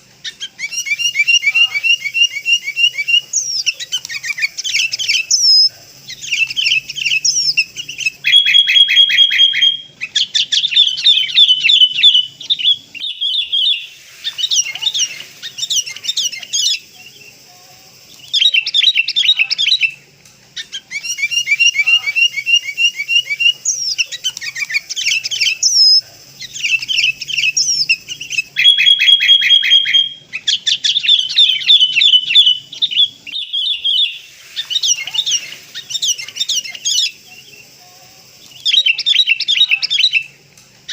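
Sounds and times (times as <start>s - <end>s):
bulbuls chirping and calling: 0.0s - 20.0s, 20.6s - 40.9s.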